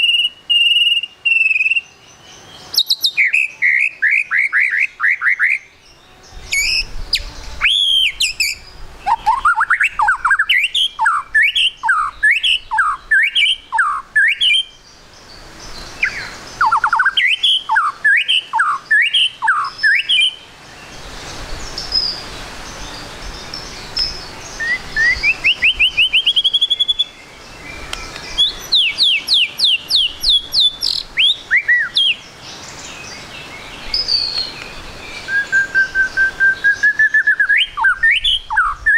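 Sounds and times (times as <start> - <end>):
bird singing whistled song: 0.0 - 38.9.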